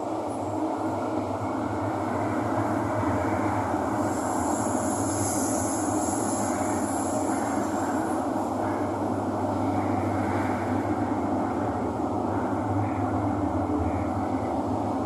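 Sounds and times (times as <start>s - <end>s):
train wheels and motors rumbling: 0.0s - 15.0s.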